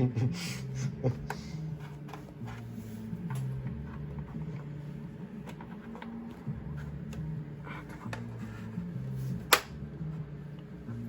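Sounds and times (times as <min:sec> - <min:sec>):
low droning background: 0:00.0 - 0:11.0.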